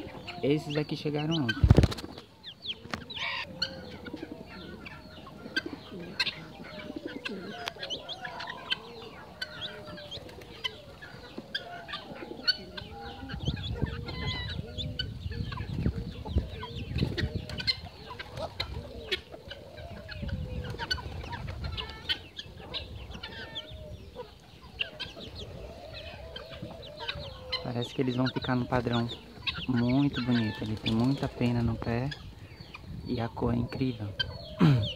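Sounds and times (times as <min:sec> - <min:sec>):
chicks peeping and clucking: 0:00.0 - 0:34.9.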